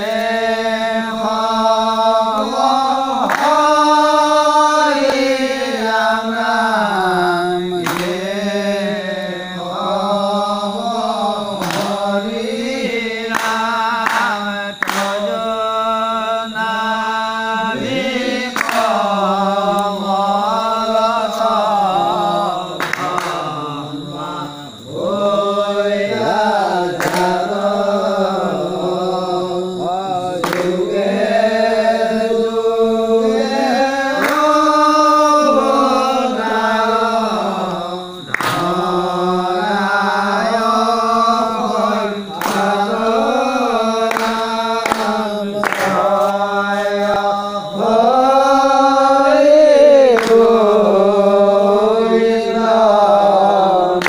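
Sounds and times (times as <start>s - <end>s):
devotional chanted singing: 0.0s - 54.0s.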